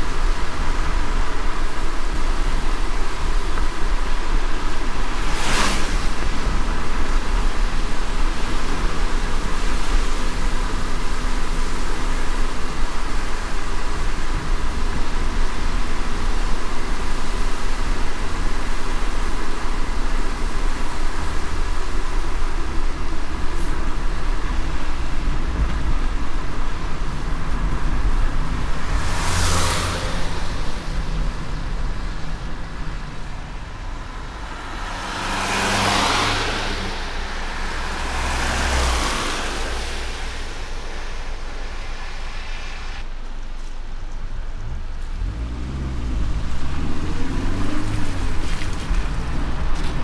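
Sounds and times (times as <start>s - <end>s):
passing vehicles whooshing: 0.0s - 50.0s
road and engine rumble: 0.0s - 50.0s
tyres hissing on wet road: 0.0s - 50.0s.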